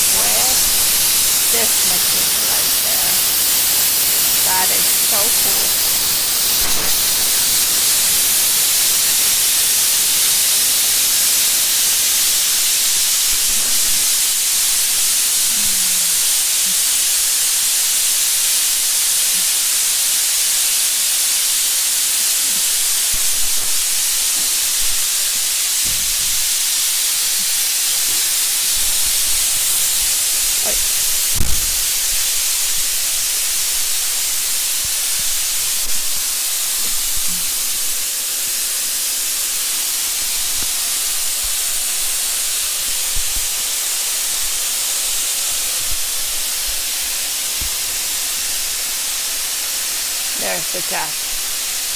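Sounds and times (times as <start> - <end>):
loud steady hiss: 0.0 - 51.9.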